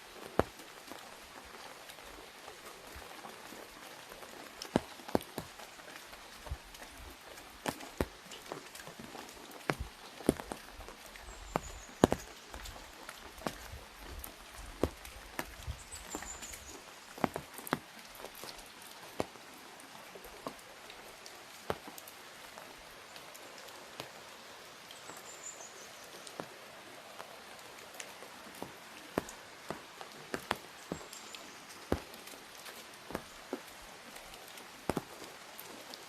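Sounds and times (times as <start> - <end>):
rain on an umbrella: 0.0 - 36.0.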